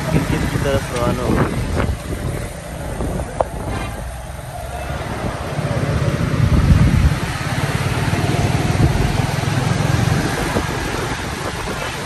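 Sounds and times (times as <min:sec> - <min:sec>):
vehicle engines on a road: 0:00.0 - 0:12.0.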